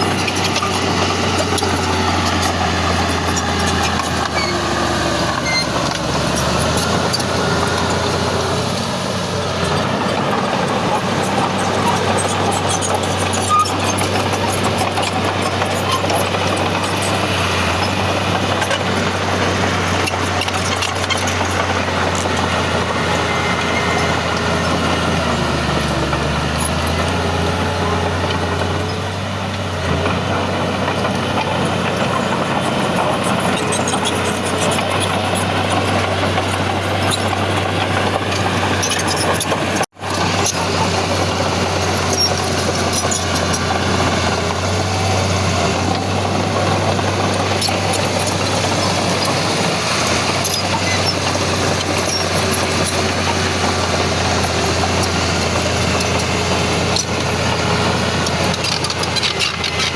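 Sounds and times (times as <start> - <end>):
diesel engine drone: 0.0 - 59.9
machinery clatter: 0.0 - 59.9.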